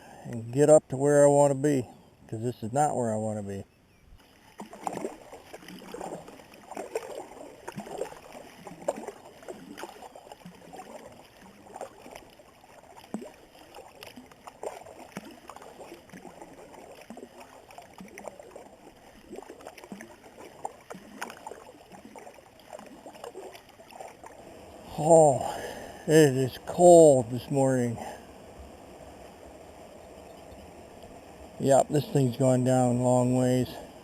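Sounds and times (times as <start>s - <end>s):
paddle strokes splashing water: 2.3s - 34.0s.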